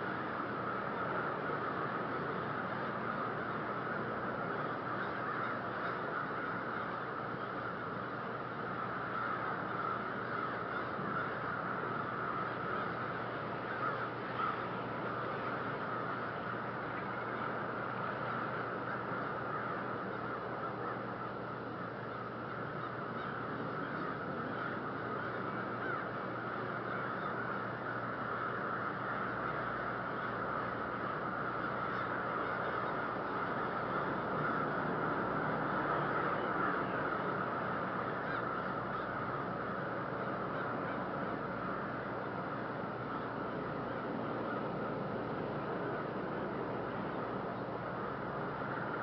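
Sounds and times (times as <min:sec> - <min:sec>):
flock of birds calling: 0:00.0 - 0:49.0.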